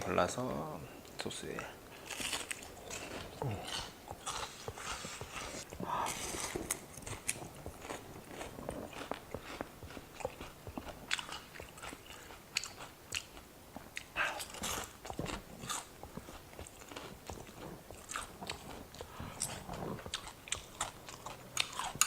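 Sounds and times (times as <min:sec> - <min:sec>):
crisp chewing crunches: 0:01.1 - 0:22.0
wet mouth sounds: 0:01.1 - 0:22.0.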